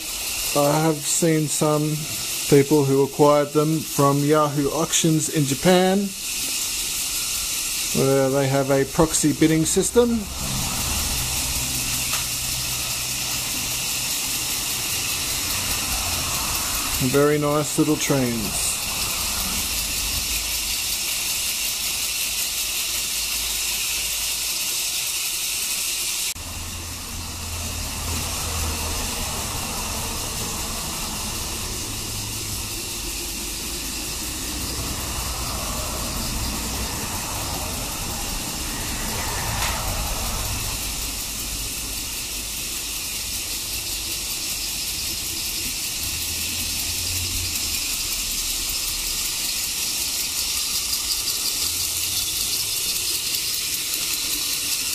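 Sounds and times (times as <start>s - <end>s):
toy trains whirring on track: 0.0s - 54.9s.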